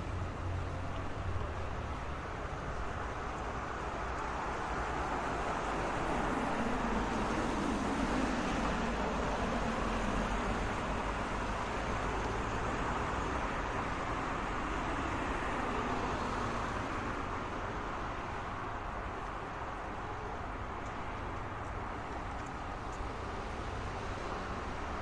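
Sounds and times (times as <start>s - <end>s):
passing cars: 0.0s - 25.0s.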